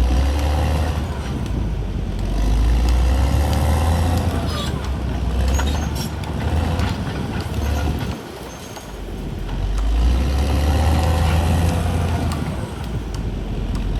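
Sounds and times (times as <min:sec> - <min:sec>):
bulldozer diesel engine: 0:00.0 - 0:13.9.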